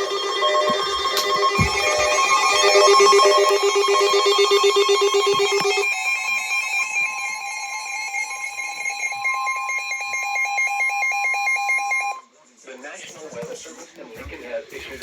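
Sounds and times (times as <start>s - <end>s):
warbling electronic alarm tones: 0.0s - 12.2s.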